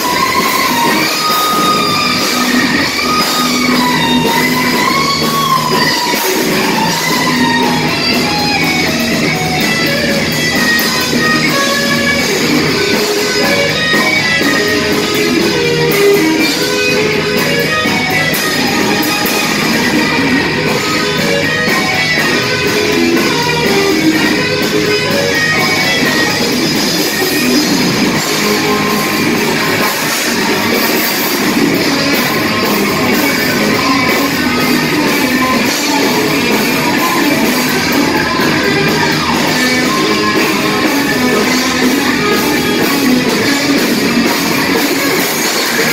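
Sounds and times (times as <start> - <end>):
bass guitar: 0.0 - 45.9
drum kit: 0.0 - 45.9
electric guitars: 0.0 - 45.9.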